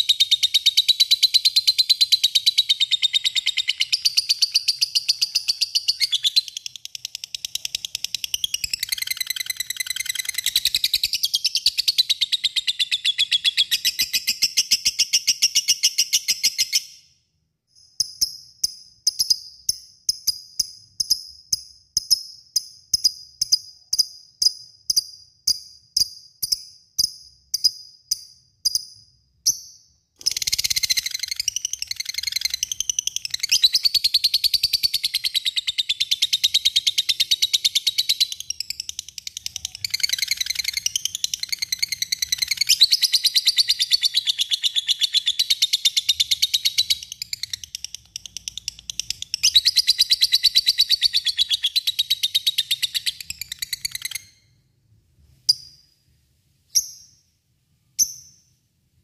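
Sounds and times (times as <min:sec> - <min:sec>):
sharp bird chirps: 0:00.0 - 0:54.7, 0:56.7 - 0:58.6.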